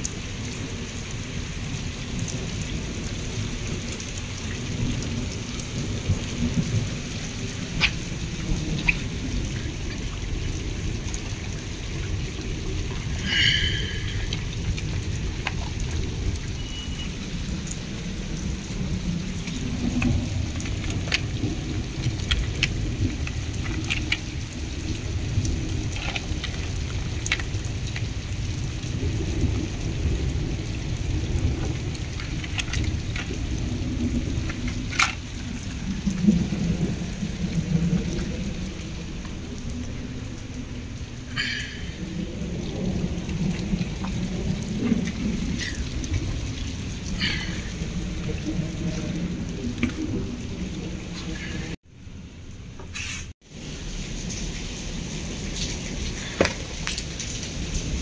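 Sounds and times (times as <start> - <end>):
rain on concrete roof: 0.0 - 58.0.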